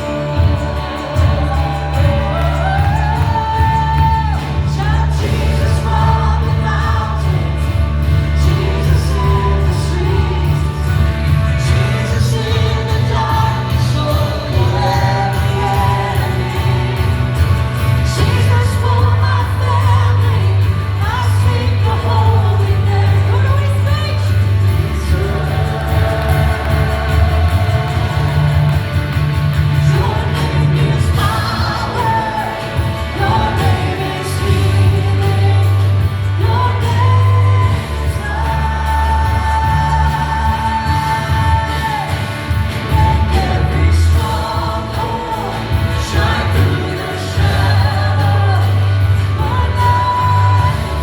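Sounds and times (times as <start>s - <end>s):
live worship band: 0.0s - 51.0s
people singing worship song: 0.0s - 51.0s.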